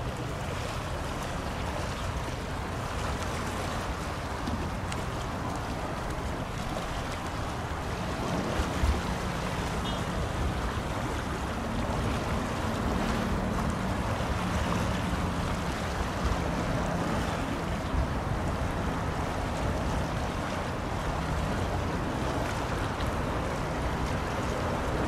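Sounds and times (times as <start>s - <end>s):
water washing: 0.0s - 25.0s
wind: 0.0s - 25.0s.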